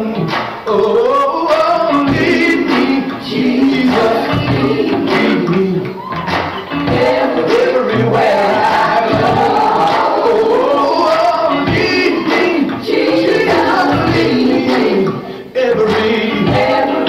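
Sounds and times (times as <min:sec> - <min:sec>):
gospel song with singing voices: 0:00.0 - 0:17.0.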